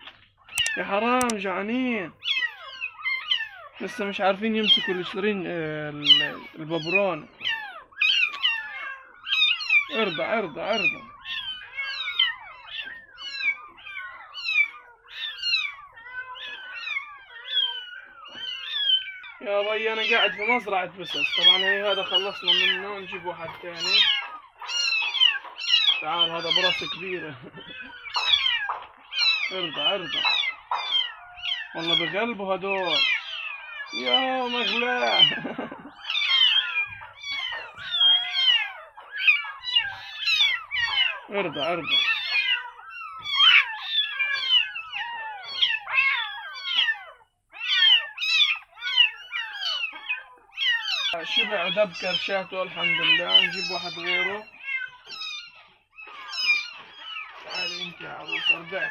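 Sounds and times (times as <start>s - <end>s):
kittens mewing: 0.0s - 58.9s.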